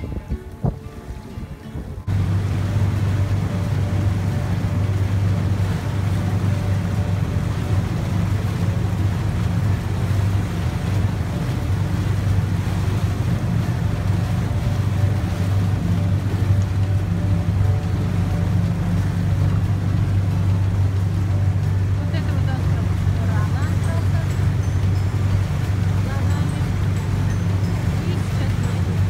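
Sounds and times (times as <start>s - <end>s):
churning water rushing: 0.0s - 29.0s
motorboat engine humming: 0.0s - 29.0s
wind on microphone: 0.0s - 29.0s.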